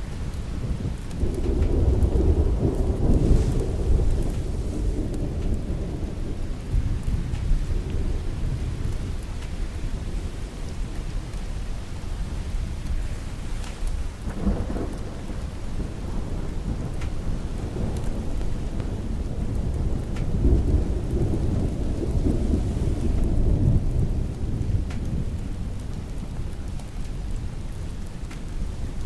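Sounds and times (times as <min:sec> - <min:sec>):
low rolling thunder: 0:00.0 - 0:29.0
steady rain: 0:00.0 - 0:29.0.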